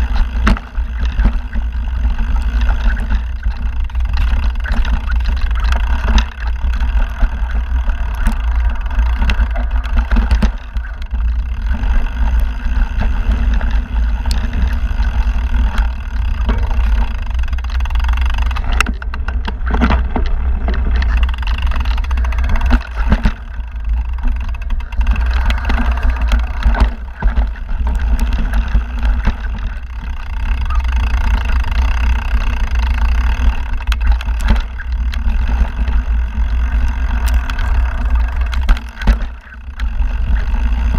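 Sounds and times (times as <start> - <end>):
bike knocking and rattling: 0.0 - 40.9
wind rumble on microphone: 0.0 - 40.9.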